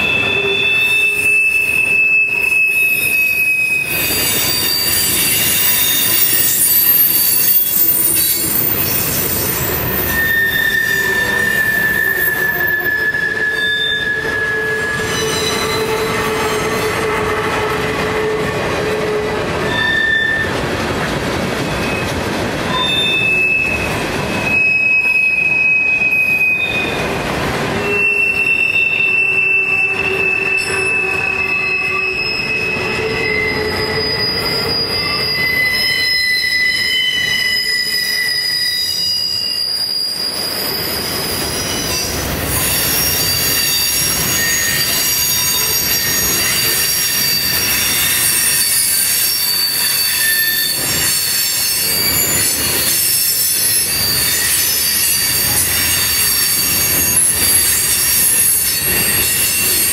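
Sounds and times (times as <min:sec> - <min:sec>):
passing train noise: 0:00.0 - 0:59.9
train wheels squealing on rails: 0:00.0 - 0:59.9.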